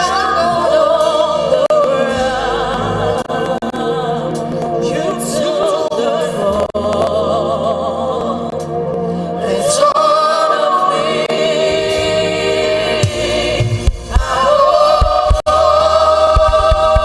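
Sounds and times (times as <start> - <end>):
voices singing with vibrato: 0.0 - 17.0.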